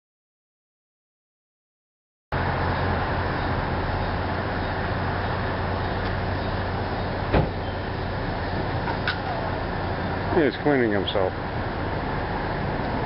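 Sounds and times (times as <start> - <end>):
constant low hum: 2.3 - 13.0.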